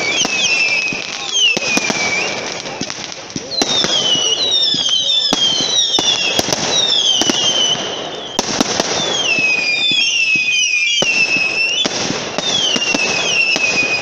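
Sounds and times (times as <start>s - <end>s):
firework cracks and bangs: 0.0s - 14.0s
fireworks whistling: 0.0s - 14.0s.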